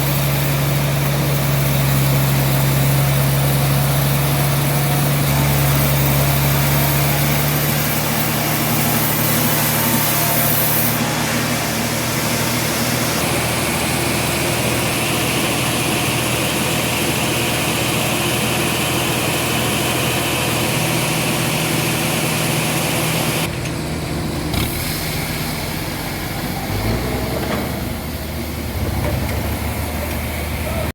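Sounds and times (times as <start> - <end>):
sawmill machinery humming: 0.0 - 30.9.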